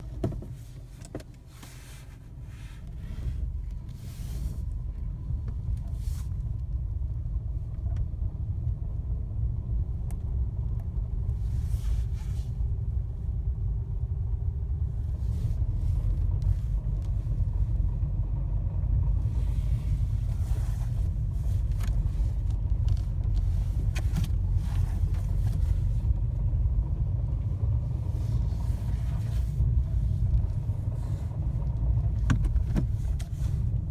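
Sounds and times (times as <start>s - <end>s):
car engine low rumble: 0.0s - 33.9s.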